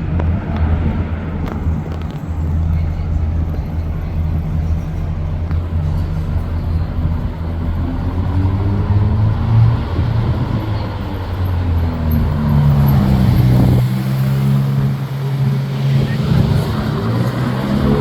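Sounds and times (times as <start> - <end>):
car engines in traffic: 0.0 - 18.0.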